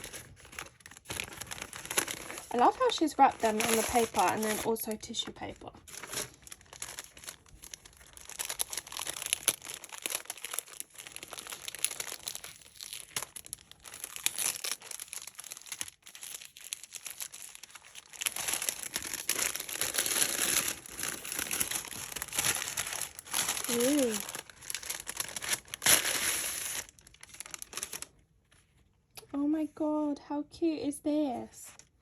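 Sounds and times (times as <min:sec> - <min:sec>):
paper crinkling and rustling: 0:00.0 - 0:28.8.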